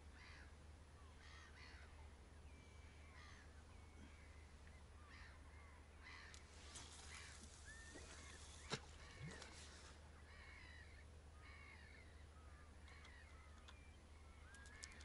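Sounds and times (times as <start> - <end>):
distant bird calls: 0.0 - 15.0.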